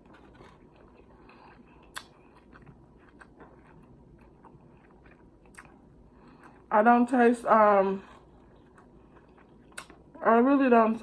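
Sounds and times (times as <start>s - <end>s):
close-up chewing: 0.0s - 6.7s, 7.7s - 10.1s.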